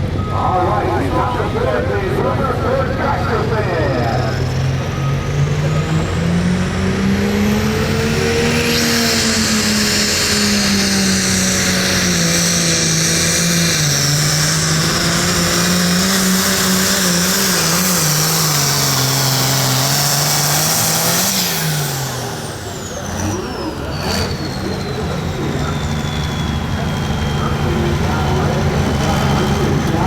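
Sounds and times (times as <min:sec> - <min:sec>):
tractor diesel engine straining: 0:00.0 - 0:30.0.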